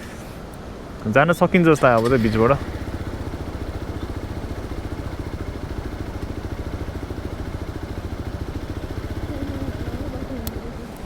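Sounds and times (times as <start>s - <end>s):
motorcycle engine idling: 1.7s - 11.0s.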